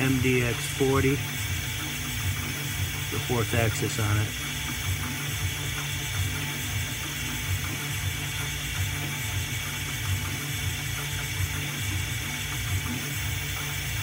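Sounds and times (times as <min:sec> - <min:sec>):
mill spindle whirring: 0:00.0 - 0:14.0.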